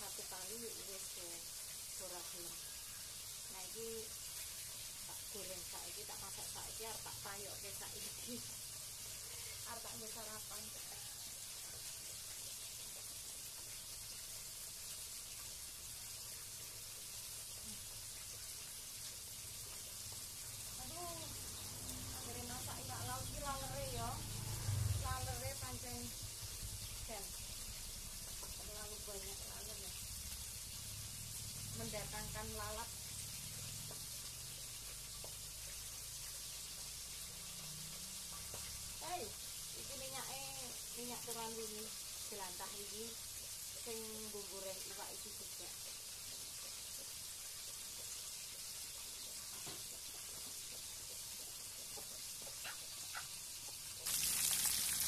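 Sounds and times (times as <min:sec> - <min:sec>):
fish sizzling in oil: 0:00.0 - 0:55.0.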